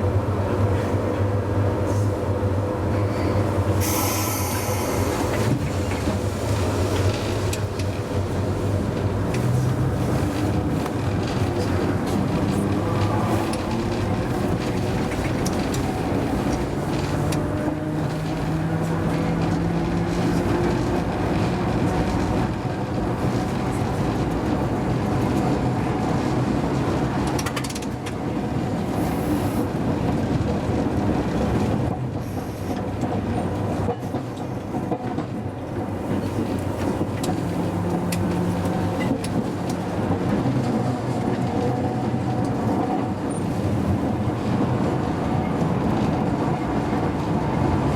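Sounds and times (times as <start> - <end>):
tram wheels rumbling on rail: 0.0 - 47.9.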